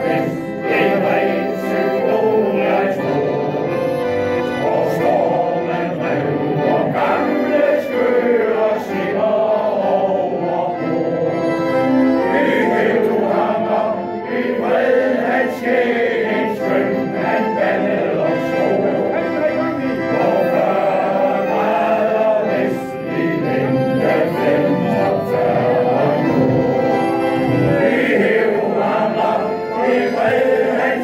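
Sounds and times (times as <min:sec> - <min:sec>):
male choir singing: 0:00.0 - 0:31.0.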